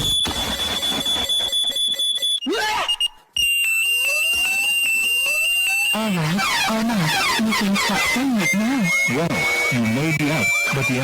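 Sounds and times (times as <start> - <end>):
high-pitched alarm tone: 0.0 - 11.0.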